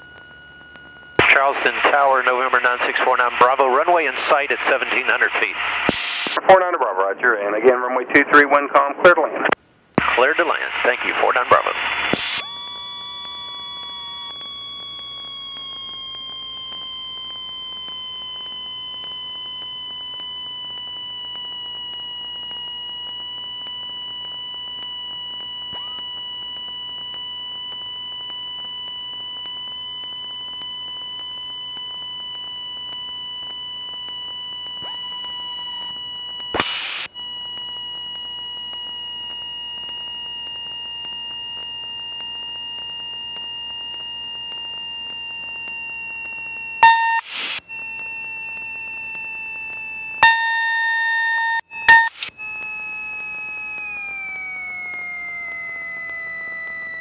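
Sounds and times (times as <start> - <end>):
high-pitched electrical whine: 0.0 - 8.7, 9.5 - 57.0
burst of static: 0.0 - 57.0.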